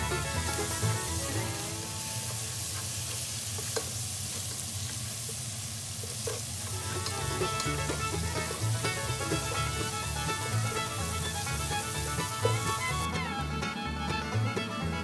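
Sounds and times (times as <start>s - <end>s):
onions sizzling in oil: 0.0s - 13.1s.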